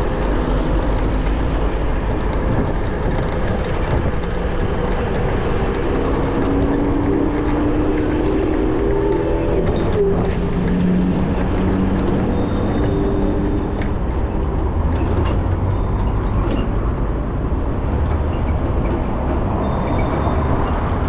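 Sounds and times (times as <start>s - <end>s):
traffic rumble: 0.0s - 21.0s
wind: 0.0s - 21.0s.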